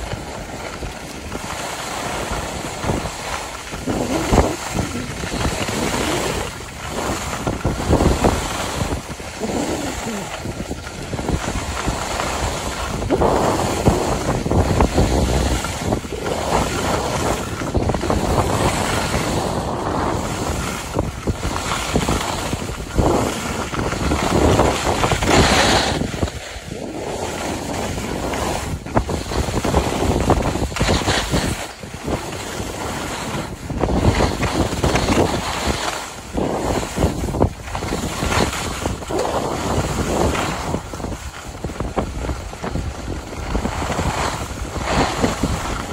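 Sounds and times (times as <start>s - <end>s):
skis scraping on snow: 0.0s - 45.9s
wind on microphone: 0.0s - 45.9s.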